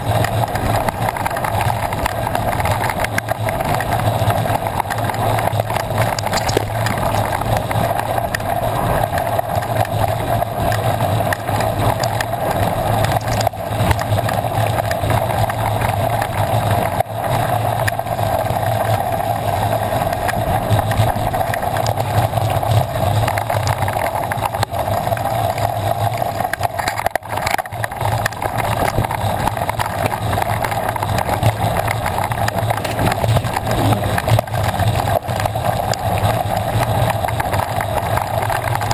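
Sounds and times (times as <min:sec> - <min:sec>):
bike rattles and knocks: 0:00.0 - 0:38.9
tyres rumbling on gravel: 0:00.0 - 0:38.9
wind: 0:00.0 - 0:38.9.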